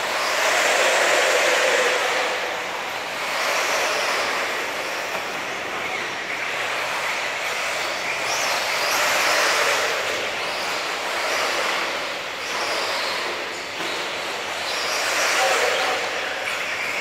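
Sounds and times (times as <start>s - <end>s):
rc car motors whining: 0.0s - 17.0s
steady rushing noise: 0.0s - 17.0s.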